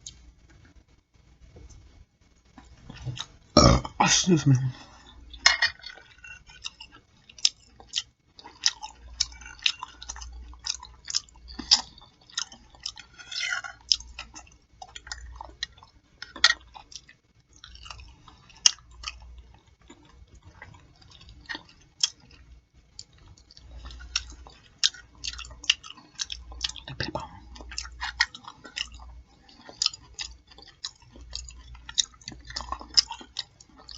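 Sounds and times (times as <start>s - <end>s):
open-mouth chewing smacks: 5.3s - 33.9s.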